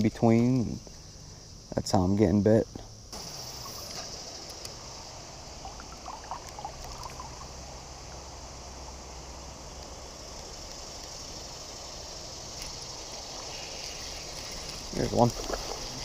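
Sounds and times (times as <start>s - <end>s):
insects chirring: 0.0s - 16.0s
faint chirps: 2.6s - 16.0s
water flowing: 3.2s - 16.0s.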